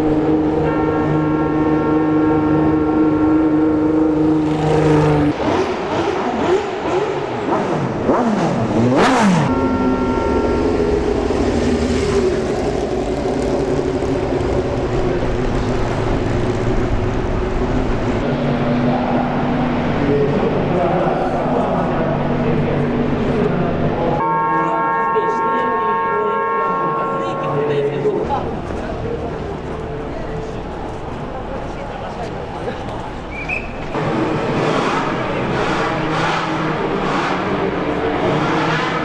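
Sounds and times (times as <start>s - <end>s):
racing cars passing: 0.0s - 39.0s.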